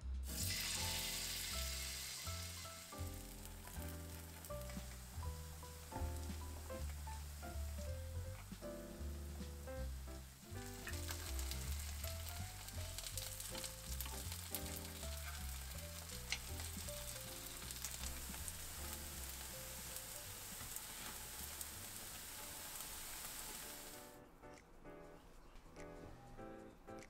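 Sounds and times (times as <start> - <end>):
pancake sizzling in oil: 0.3 - 7.9, 9.4 - 24.1.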